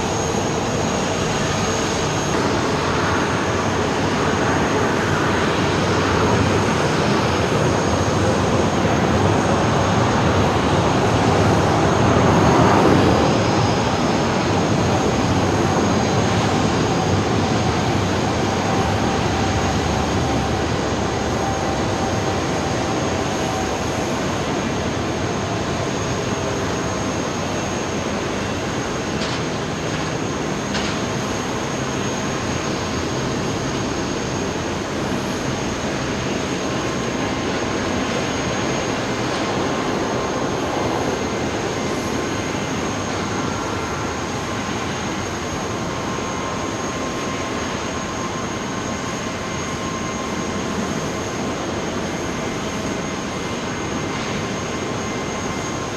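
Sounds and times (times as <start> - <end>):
high engine whine: 0.0 - 55.9
jet engines rushing: 0.0 - 55.9.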